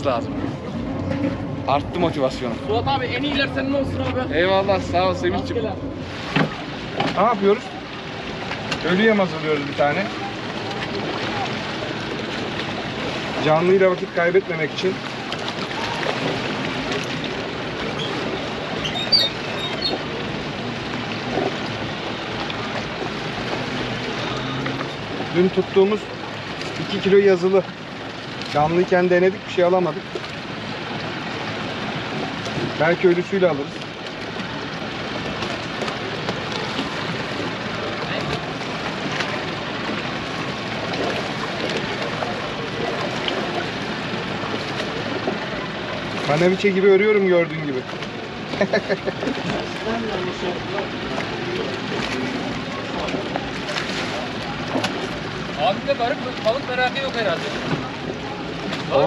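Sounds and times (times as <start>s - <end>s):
boat engine: 0.0s - 59.0s
water and wind rushing: 0.0s - 59.0s.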